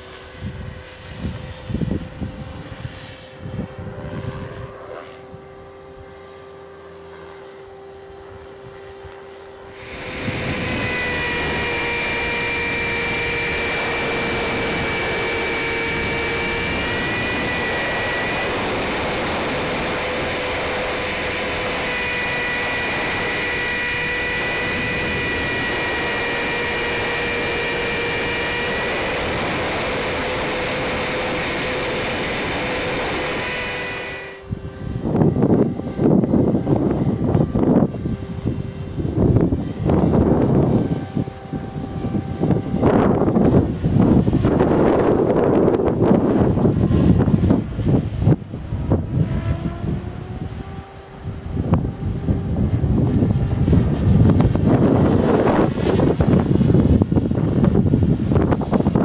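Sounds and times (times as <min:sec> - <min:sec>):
rc helicopter whine: 0:00.0 - 0:59.0
wind buffeting microphone: 0:00.3 - 0:06.2, 0:09.7 - 0:59.0.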